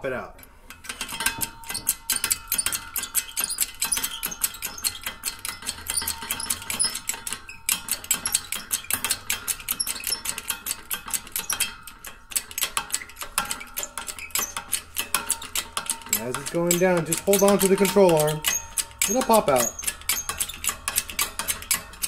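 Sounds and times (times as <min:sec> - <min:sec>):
hydraulic press rapid metallic clicks: 0:00.8 - 0:22.0.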